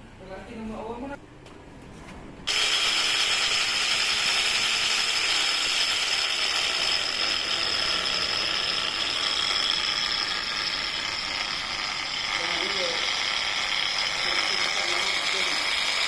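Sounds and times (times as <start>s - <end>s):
polisher motor whirring: 2.5s - 16.0s.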